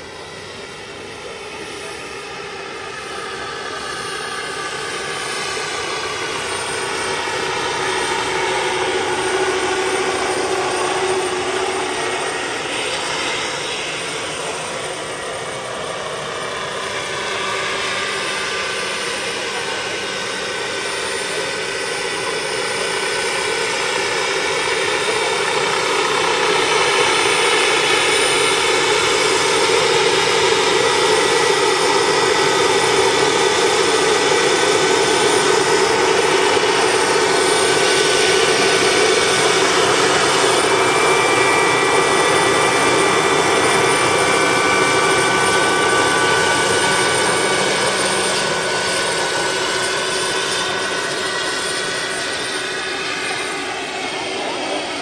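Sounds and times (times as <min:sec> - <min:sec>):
model helicopter turbine whine: 0:00.0 - 0:55.0
rushing rotor noise: 0:00.0 - 0:55.0.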